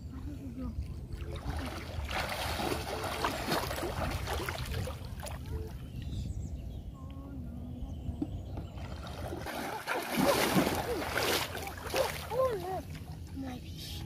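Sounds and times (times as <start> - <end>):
water sloshing from wading: 0.5 - 6.3, 8.1 - 14.0.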